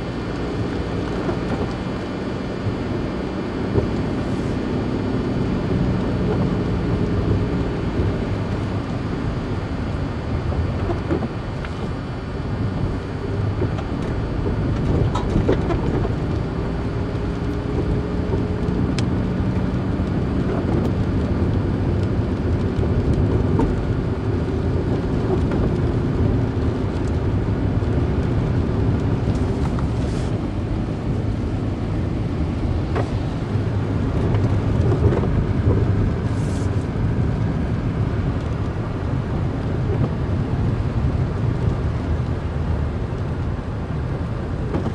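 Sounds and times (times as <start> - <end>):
car road and engine rumble: 0.0 - 44.9.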